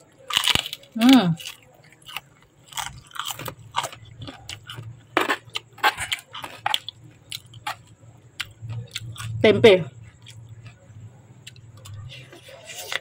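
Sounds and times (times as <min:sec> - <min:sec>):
person chewing crunchy food: 0:00.0 - 0:09.4, 0:10.0 - 0:13.0.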